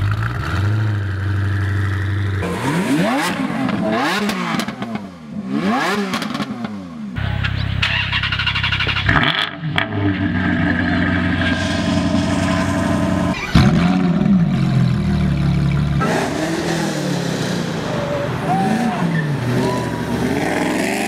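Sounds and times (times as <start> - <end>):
car engines running and revving: 0.0 - 21.0.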